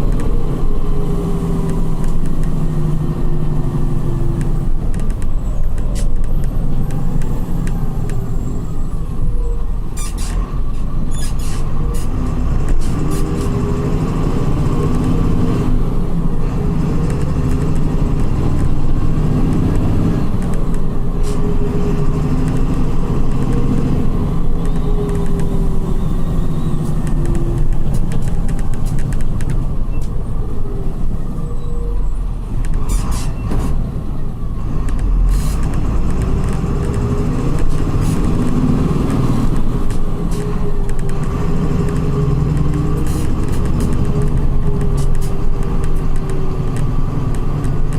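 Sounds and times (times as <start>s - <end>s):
coach diesel engine running: 0.0s - 47.9s.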